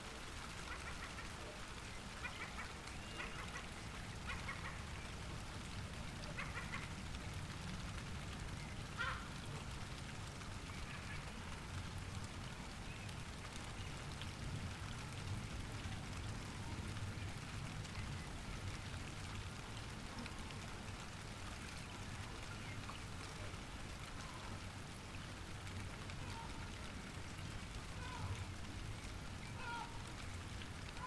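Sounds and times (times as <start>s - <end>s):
light rain patter: 0.0s - 31.0s.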